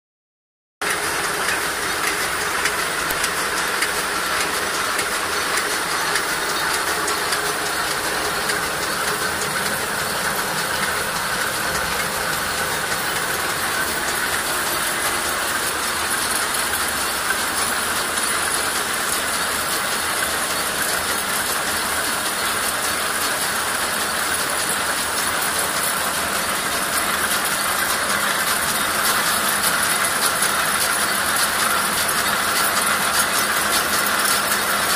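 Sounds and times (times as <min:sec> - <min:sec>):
constant machine hiss: 0:00.8 - 0:34.9
machine rollers clattering: 0:00.8 - 0:34.9.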